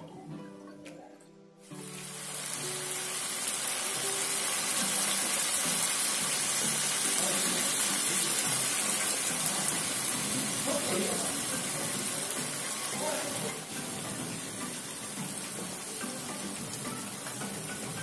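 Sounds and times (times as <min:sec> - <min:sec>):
faint background music: 0:00.0 - 0:18.0
chicken frying in a pan: 0:01.7 - 0:18.0.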